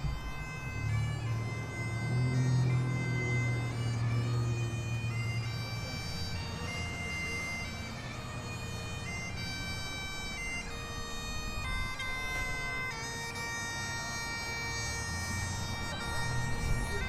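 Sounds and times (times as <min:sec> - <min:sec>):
bagpipe chanter melody: 0:00.0 - 0:17.0
bagpipe drones humming: 0:00.0 - 0:17.0.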